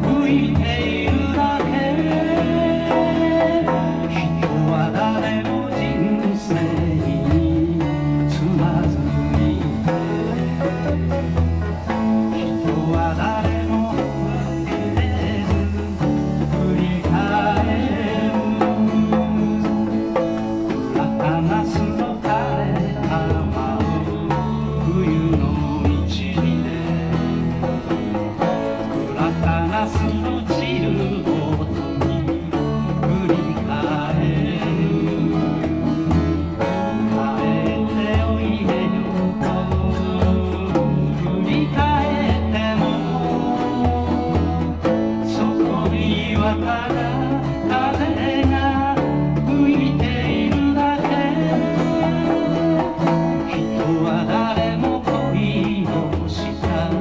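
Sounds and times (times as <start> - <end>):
acoustic guitar strummed: 0.0 - 57.0
keyboard accompaniment: 0.0 - 57.0
man singing into a microphone: 0.0 - 57.0.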